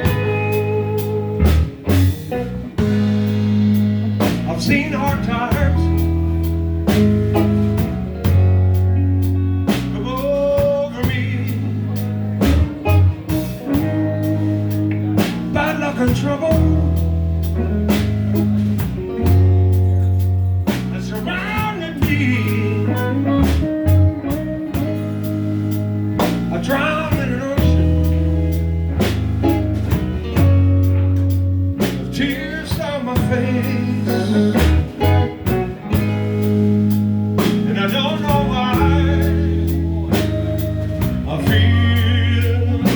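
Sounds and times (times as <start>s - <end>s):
blues band music: 0.0s - 42.9s.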